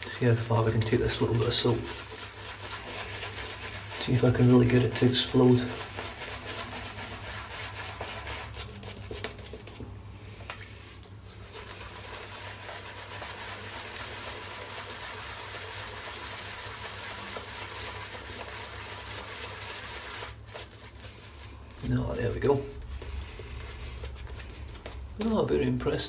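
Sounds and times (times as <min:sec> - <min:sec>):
shaving brush on wet lather: 0:00.0 - 0:10.6, 0:11.3 - 0:26.0.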